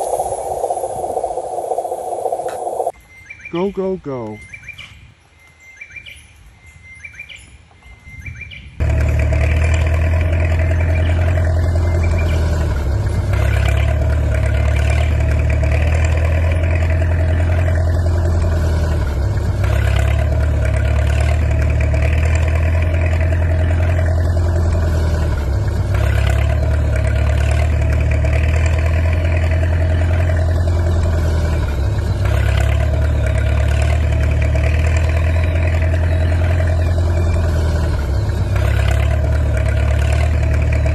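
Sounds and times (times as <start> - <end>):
loud engine running: 0.0 - 2.9, 8.8 - 40.9
birds chirping: 0.0 - 40.9.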